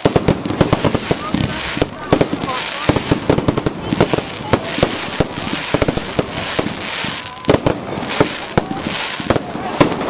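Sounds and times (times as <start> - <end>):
fireworks bangs: 0.0 - 10.0
fireworks crackling hiss: 0.0 - 10.0.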